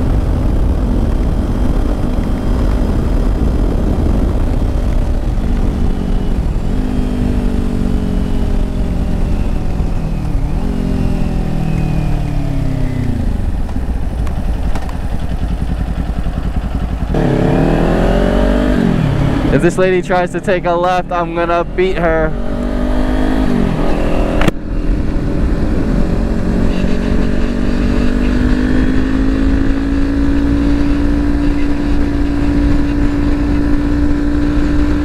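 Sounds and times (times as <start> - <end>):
motorcycle engine: 0.0 - 35.0
wind rush on microphone: 0.0 - 35.0.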